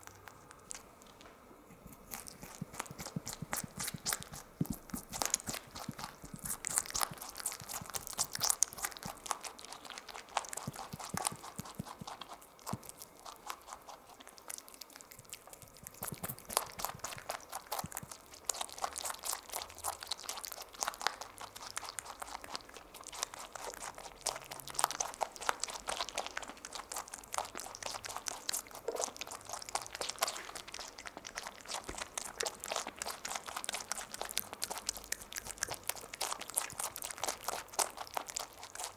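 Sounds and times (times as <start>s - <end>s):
rabbit chewing: 0.0s - 38.9s.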